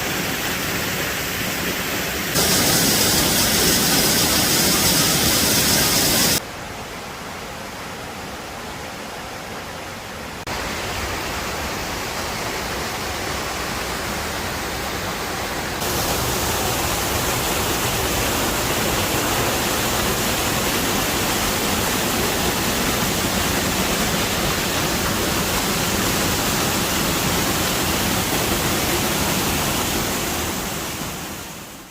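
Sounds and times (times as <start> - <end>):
waterfall roaring: 0.0 - 31.9.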